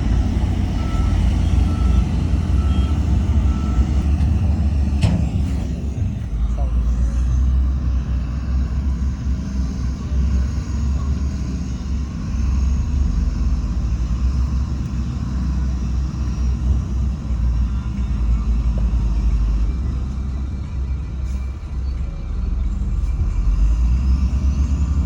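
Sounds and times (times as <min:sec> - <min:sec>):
diesel machinery engine rumble: 0:00.0 - 0:25.0.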